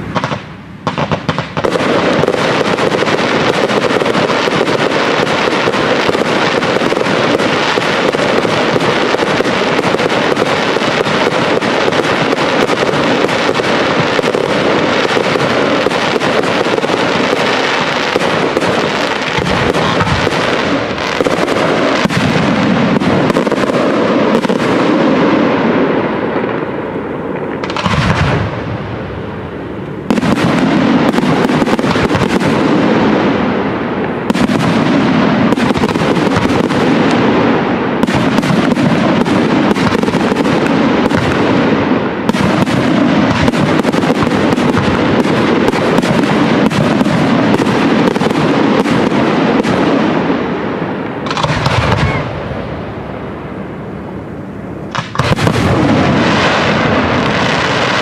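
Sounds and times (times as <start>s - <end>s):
rapid firework cracks and bangs: 0.0s - 53.3s, 54.9s - 58.0s.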